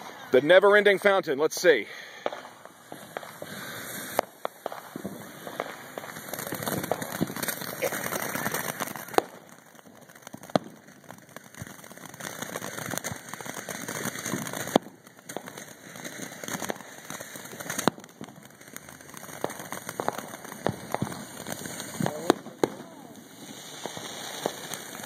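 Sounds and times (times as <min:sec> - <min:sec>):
firework crackling hiss: 0:00.0 - 0:25.0
firework pops: 0:01.6 - 0:25.0.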